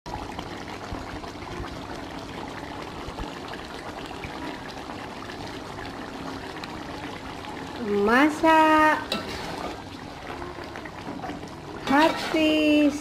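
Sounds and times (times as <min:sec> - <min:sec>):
stew bubbling in a pan: 0:00.1 - 0:13.0.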